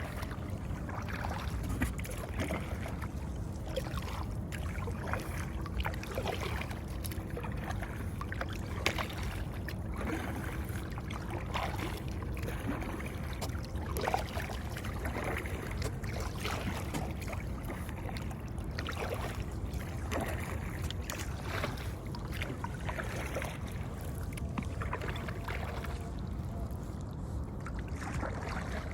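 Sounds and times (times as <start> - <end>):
paddle splashing in water: 0.0 - 28.9.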